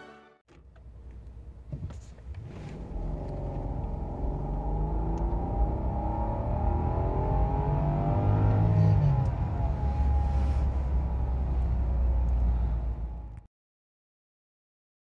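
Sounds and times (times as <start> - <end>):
car engine humming: 0.5 - 13.4.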